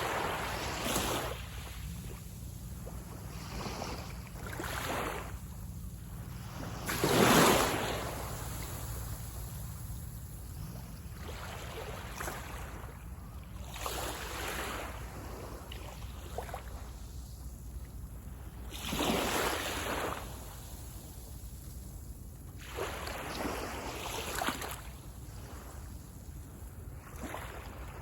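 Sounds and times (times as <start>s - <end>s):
small waves breaking on sand: 0.0s - 28.0s
wind rumble on microphone: 0.0s - 28.0s.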